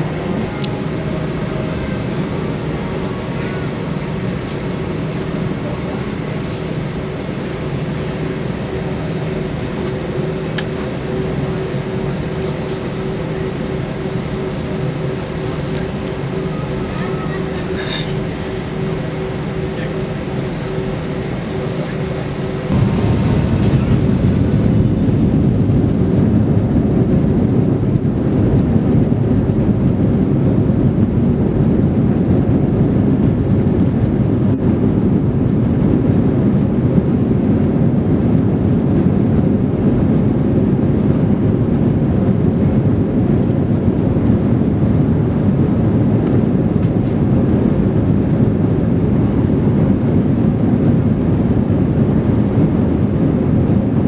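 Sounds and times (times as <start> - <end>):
jet engines roaring on take-off: 0.0 - 54.0.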